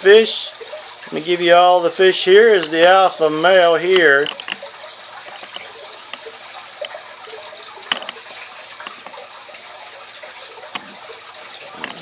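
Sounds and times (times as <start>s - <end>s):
aquarium filter water trickling: 0.0s - 12.0s.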